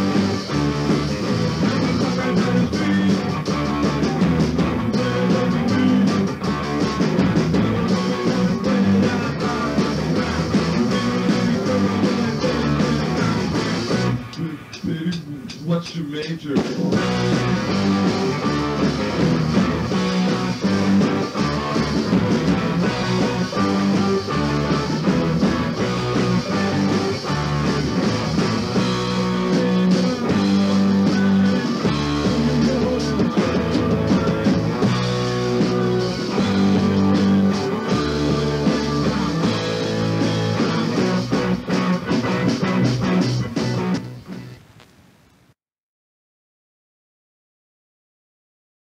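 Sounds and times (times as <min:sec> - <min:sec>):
bass guitar: 0:00.0 - 0:44.9
electric guitar: 0:00.0 - 0:45.0
keyboards: 0:00.0 - 0:45.3
drums: 0:00.0 - 0:45.6.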